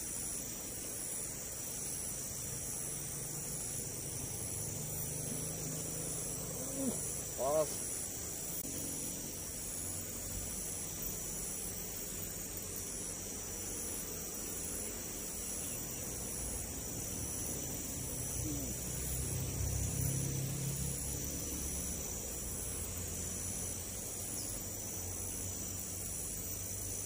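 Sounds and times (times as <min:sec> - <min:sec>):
insects trilling: 0:00.0 - 0:27.0
pulsing insect chirp: 0:00.0 - 0:27.0.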